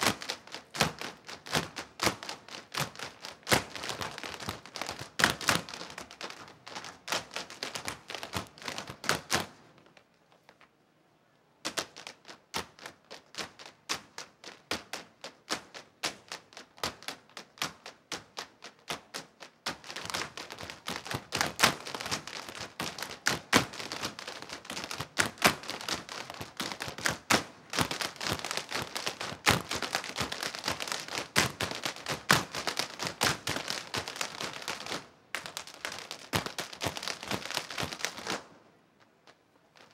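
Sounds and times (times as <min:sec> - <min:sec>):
hard shoes tapping on stage: 0:00.0 - 0:09.5, 0:11.7 - 0:38.4.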